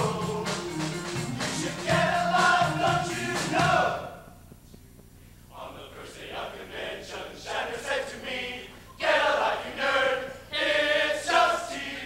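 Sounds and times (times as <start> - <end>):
men's chorus singing: 0.0 - 4.3, 5.5 - 12.0.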